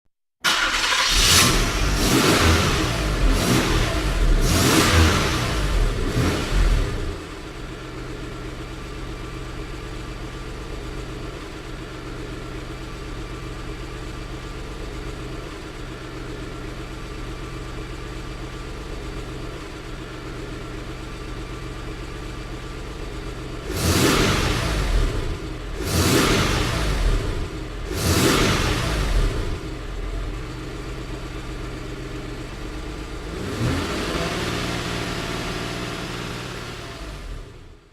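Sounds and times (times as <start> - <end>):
car engine revving and idling: 0.5 - 37.9.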